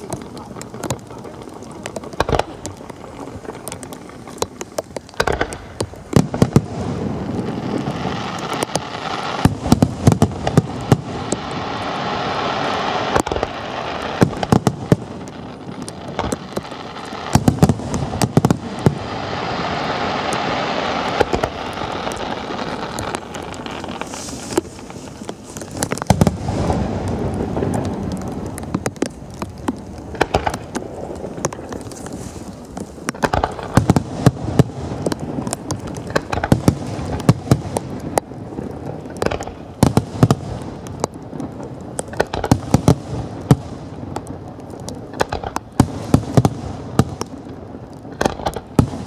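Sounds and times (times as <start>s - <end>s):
dense crackling barrage: 0.0s - 49.0s
firework bangs: 0.0s - 49.0s.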